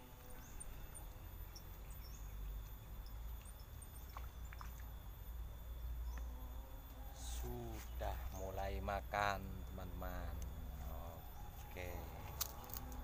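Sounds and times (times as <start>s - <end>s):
thin steady high tone: 0.0s - 13.0s
high wildlife chirps: 0.2s - 13.0s.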